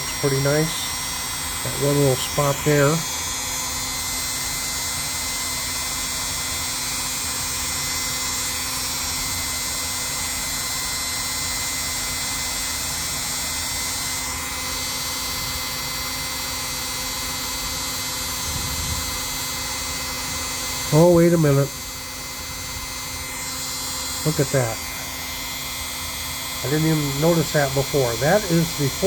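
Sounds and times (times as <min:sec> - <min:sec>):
power tool motor whining: 0:00.0 - 0:29.0.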